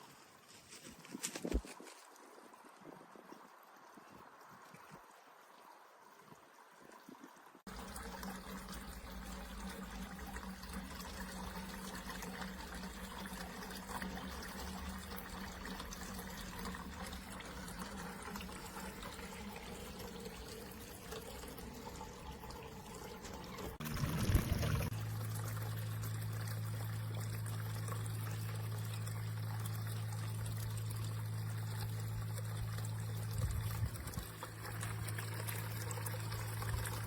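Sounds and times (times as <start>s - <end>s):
fountain water trickling: 2.1s - 37.0s.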